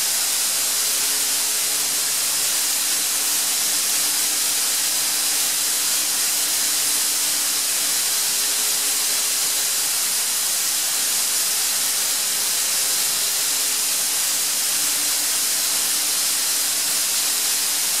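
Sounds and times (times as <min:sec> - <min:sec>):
air compressor hissing: 0:00.0 - 0:18.0.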